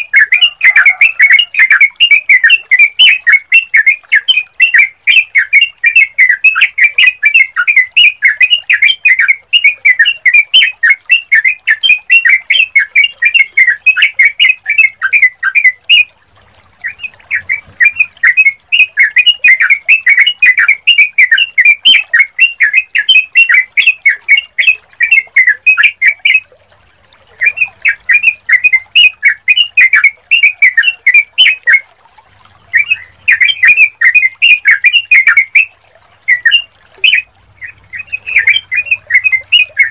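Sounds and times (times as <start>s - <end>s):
bird chattering song: 0.0s - 16.1s, 16.8s - 26.6s, 27.3s - 31.8s, 32.7s - 39.9s.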